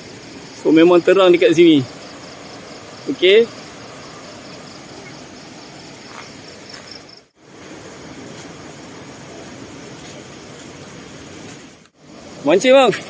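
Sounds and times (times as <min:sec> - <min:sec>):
crickets trilling: 0:00.0 - 0:13.0
steady hiss: 0:00.0 - 0:13.0.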